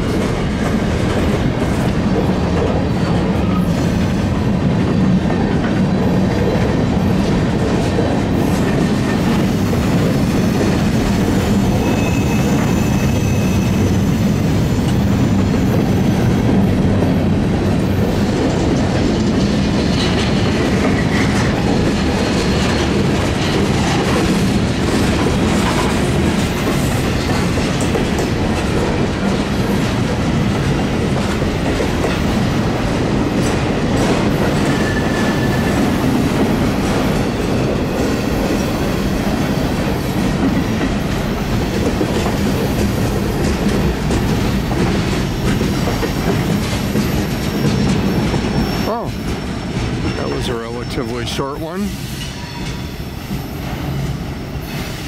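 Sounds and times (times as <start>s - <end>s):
wheels clacking over rail joints: 0.0s - 51.2s
train wheels rumbling on rails: 0.0s - 55.0s.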